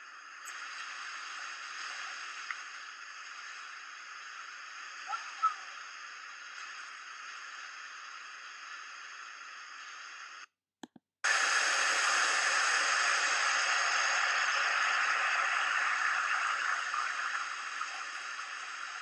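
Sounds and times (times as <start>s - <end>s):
steady hiss: 0.0s - 10.5s, 11.2s - 19.0s.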